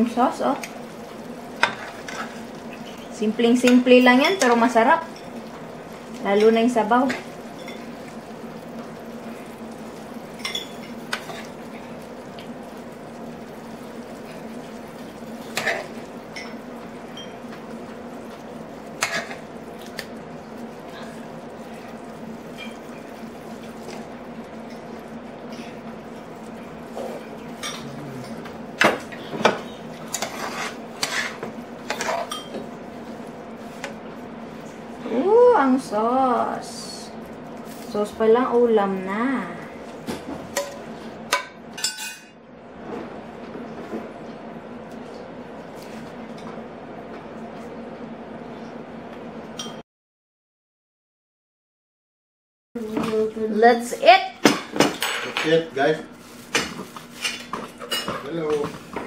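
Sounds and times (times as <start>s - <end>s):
steady low hum: 0.0s - 49.5s.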